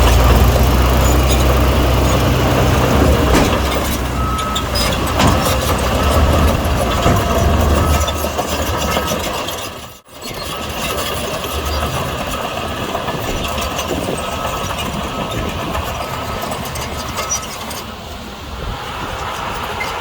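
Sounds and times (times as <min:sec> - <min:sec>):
diesel engine of heavy machinery: 0:00.0 - 0:20.0.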